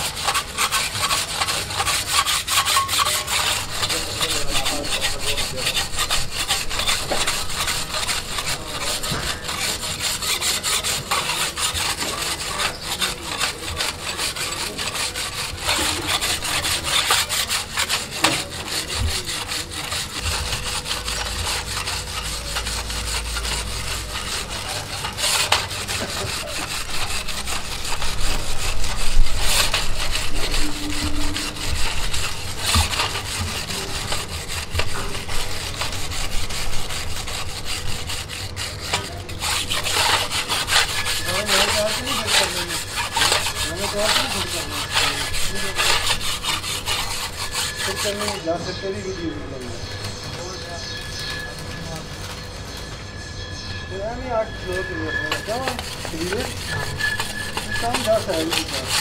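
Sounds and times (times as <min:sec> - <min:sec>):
wire brush scraping metal: 0:00.0 - 0:59.0.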